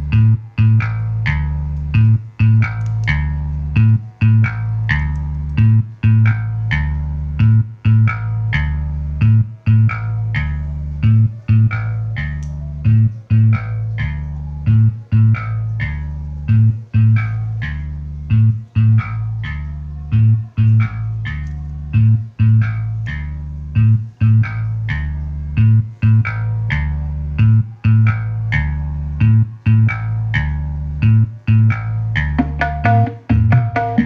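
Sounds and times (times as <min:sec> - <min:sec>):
bass-heavy music with guitar: 0:00.0 - 0:34.0.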